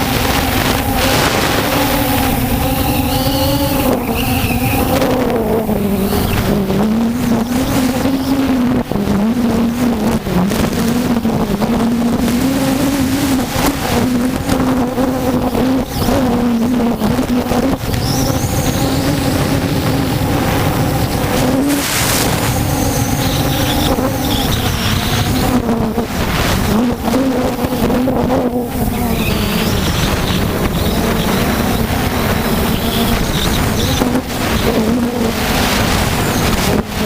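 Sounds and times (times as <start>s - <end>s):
drone motors humming: 0.0s - 37.0s
gusty wind: 0.0s - 37.0s.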